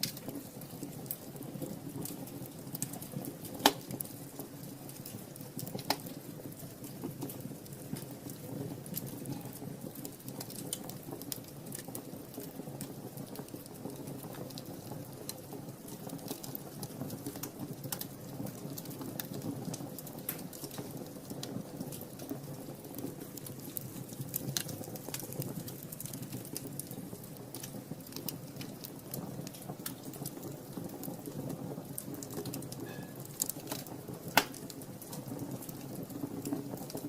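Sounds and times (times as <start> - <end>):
burning logs crackling and popping: 0.0 - 37.0
low rush of flames: 0.0 - 37.0.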